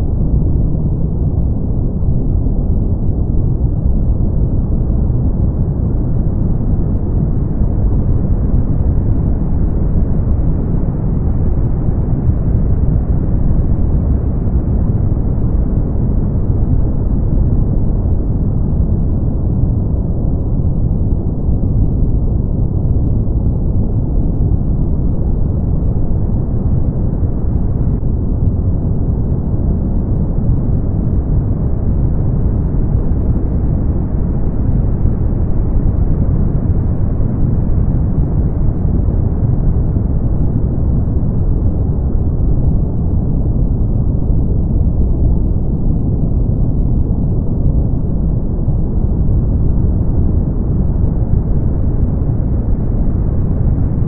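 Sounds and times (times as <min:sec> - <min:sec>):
brown noise: 0:00.0 - 0:54.0.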